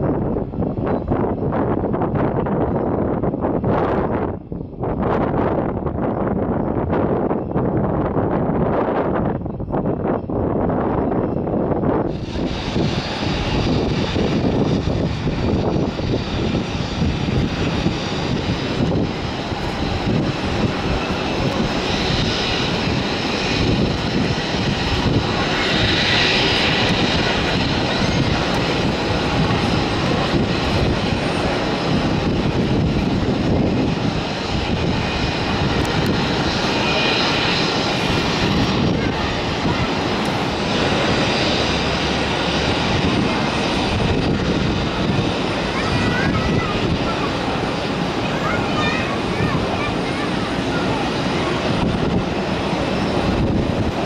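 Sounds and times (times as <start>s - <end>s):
jet engine noise: 0.0s - 54.0s
wind buffeting microphone: 0.0s - 54.0s.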